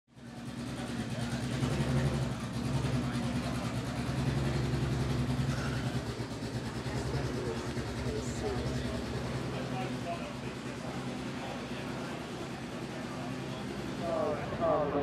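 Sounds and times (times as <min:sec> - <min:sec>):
racing car engine idling: 0:00.1 - 0:15.0.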